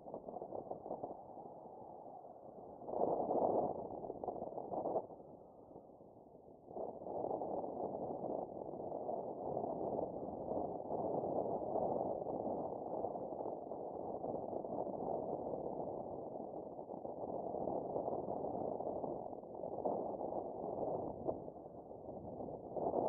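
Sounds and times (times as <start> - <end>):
wind noise on microphone: 0.0 - 23.0.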